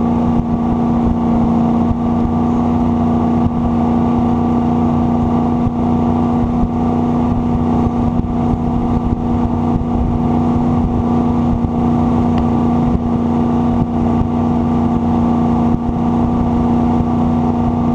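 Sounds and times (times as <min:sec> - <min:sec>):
boat engine droning: 0:00.0 - 0:17.9.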